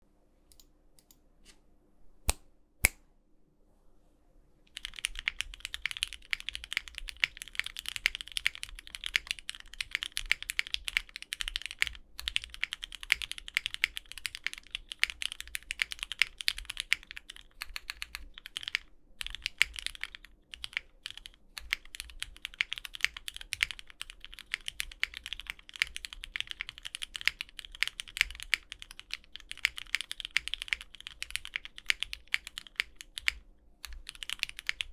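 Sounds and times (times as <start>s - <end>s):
mechanical keyboard typing: 4.7s - 34.9s.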